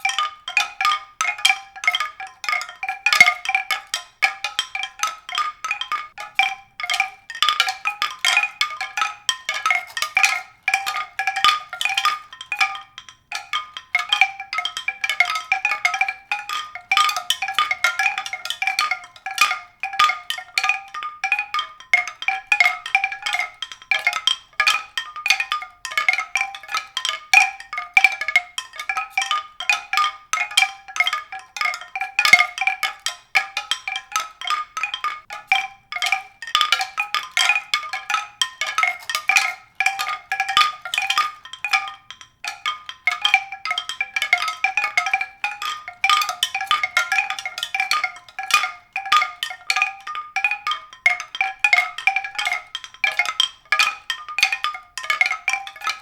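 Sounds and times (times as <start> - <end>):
mallet percussion playing: 0.0 - 56.0.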